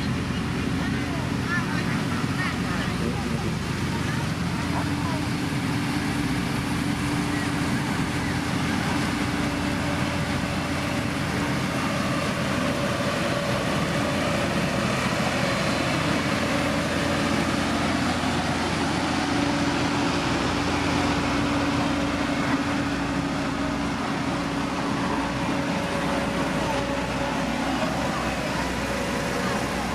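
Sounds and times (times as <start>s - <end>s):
diesel engine running steadily: 0.0s - 29.9s.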